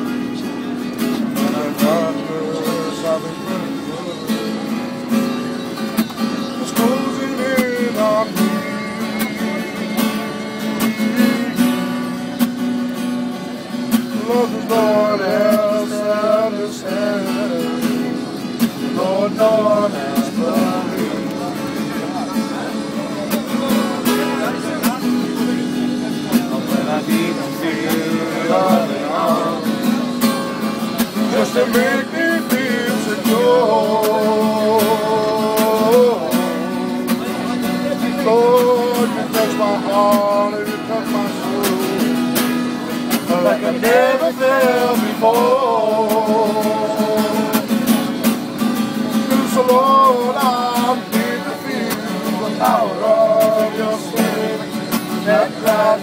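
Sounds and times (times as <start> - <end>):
guitar accompaniment: 0.0 - 56.0.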